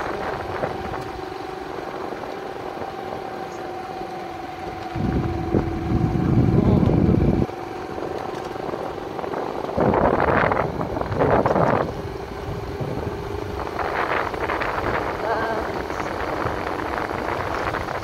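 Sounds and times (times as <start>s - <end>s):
wind on microphone: 0.0s - 3.9s, 4.6s - 18.0s
motorcycle engine running: 0.0s - 18.0s.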